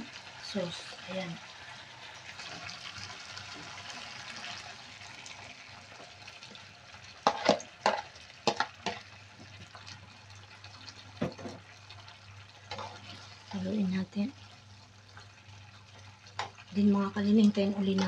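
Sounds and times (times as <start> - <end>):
sauce pouring and sizzling: 0.0 - 18.0.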